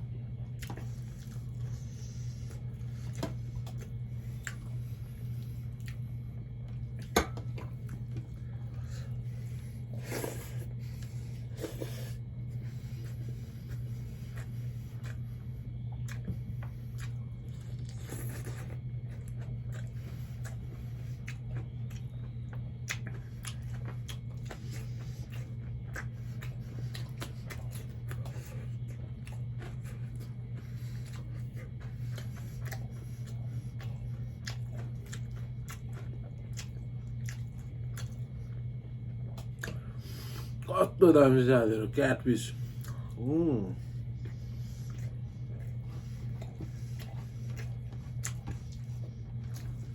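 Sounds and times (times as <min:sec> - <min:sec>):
steady low hum: 0:00.0 - 0:49.9
wet chewing: 0:00.2 - 0:40.7, 0:42.6 - 0:49.9.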